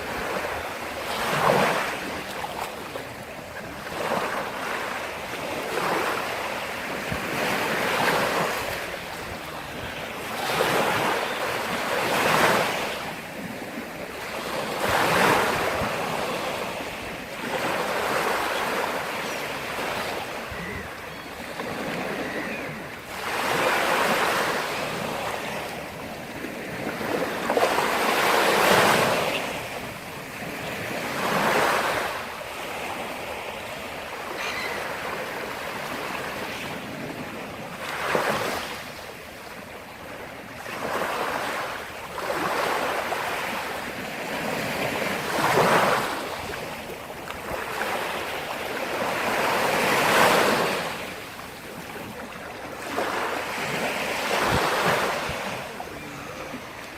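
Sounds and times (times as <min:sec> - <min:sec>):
waves breaking on shore: 0:00.0 - 0:56.9.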